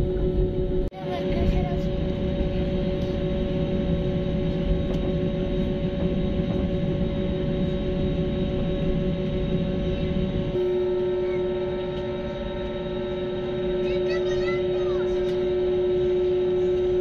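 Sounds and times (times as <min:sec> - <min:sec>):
jet engines humming in cabin: 0:00.0 - 0:17.0.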